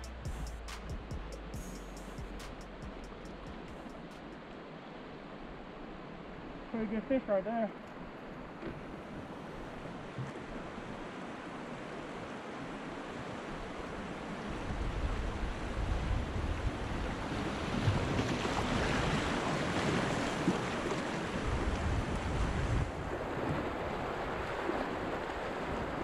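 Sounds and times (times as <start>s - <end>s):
rushing river water: 0.0s - 26.0s.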